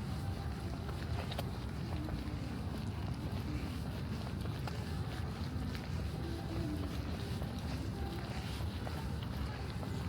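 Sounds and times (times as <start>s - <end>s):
footsteps on path: 0.0s - 10.0s.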